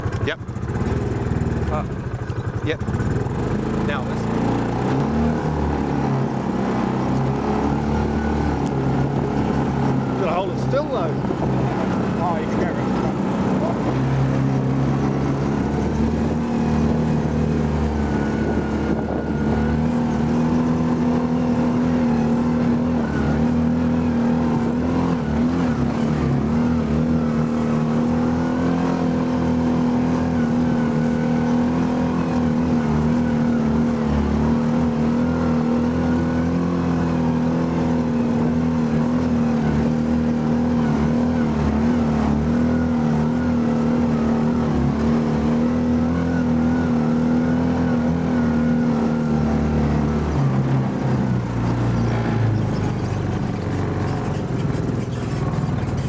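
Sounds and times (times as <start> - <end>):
engine revving under load: 0.0 - 56.0.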